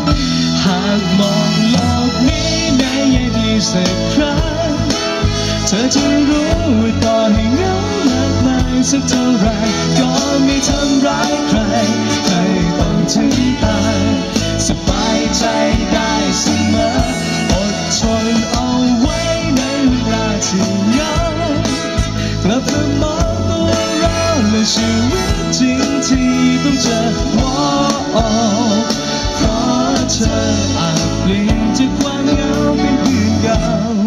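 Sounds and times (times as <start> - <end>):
drums: 0.0 - 34.0
electric bass guitar: 0.0 - 34.0
man singing lead vocals: 0.0 - 34.0.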